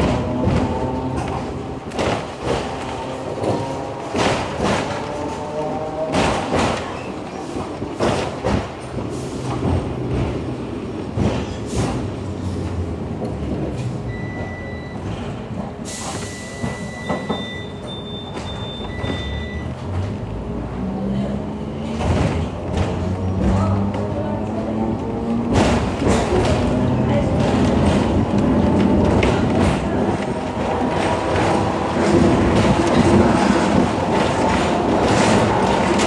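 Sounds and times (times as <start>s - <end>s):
tram wheels clacking on rails: 0.0s - 36.0s.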